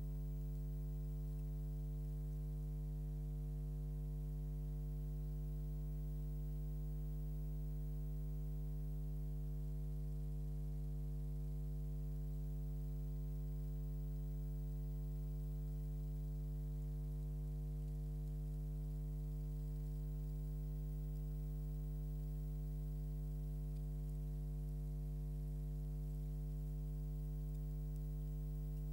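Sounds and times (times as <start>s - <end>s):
electrical mains hum: 0.0s - 28.9s.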